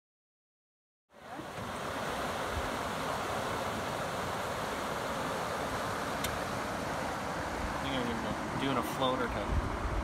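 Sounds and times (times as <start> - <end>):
river water over rocks: 1.1 - 10.0.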